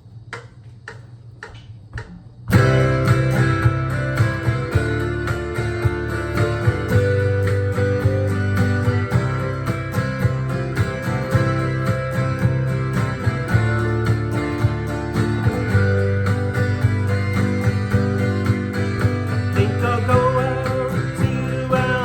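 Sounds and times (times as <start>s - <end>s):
guitar strummed with a pick: 2.5s - 22.0s.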